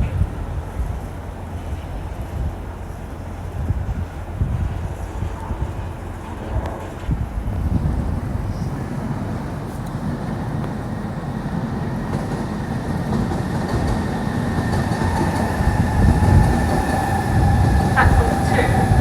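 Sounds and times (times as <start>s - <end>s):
train rail rumble: 0.0s - 19.0s.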